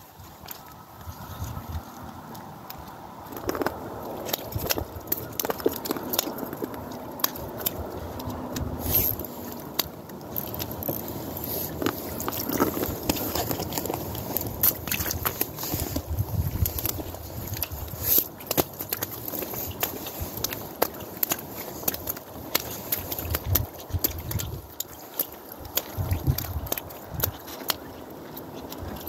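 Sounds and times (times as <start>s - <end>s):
water splashing: 0.0s - 29.0s.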